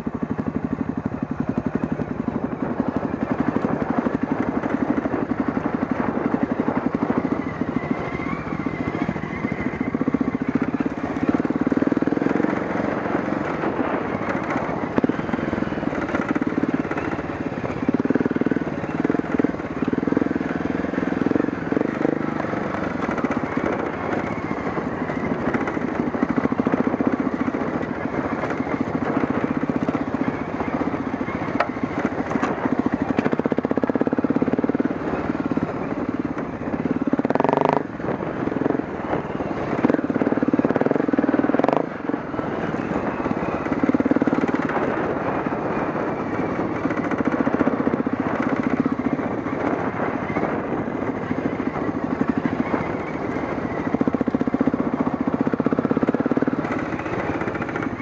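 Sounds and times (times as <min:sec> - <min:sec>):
dirt bike engine revving: 0:02.8 - 0:58.0.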